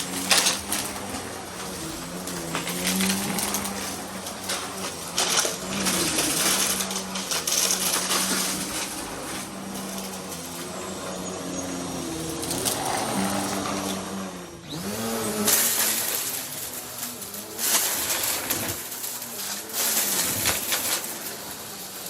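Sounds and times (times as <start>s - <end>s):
clicks and rattles: 0.0s - 11.2s, 12.0s - 22.0s
vacuum cleaner running: 0.0s - 22.0s.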